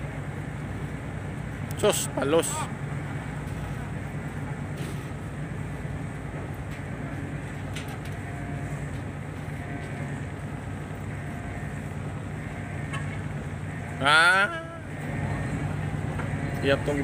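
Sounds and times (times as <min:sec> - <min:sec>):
diesel engine drone: 0:00.0 - 0:17.0.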